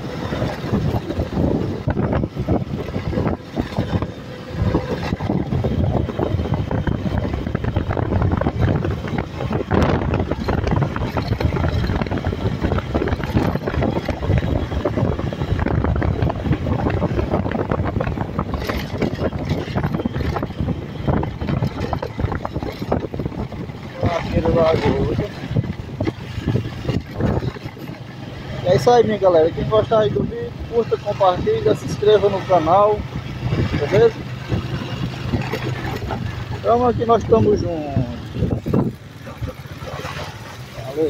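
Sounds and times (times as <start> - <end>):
motorcycle engine running: 0.0 - 41.0
wind rushing on microphone: 0.0 - 41.0.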